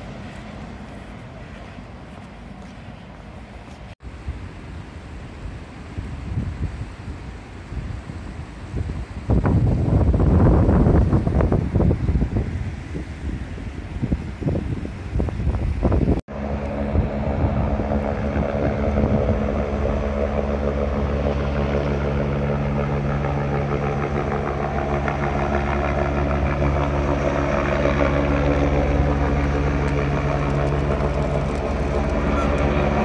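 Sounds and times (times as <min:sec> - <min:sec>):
helicopter rotor and turbine drone: 0:00.0 - 0:33.0
street noise: 0:00.0 - 0:33.0.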